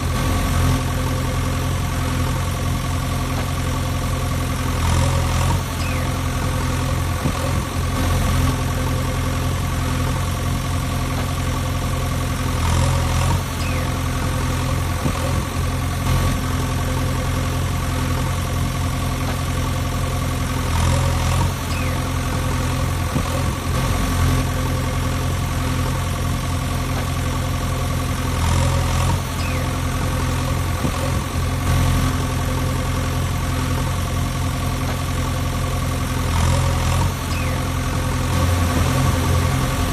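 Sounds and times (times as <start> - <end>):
engine idling rumble: 0.0 - 39.9.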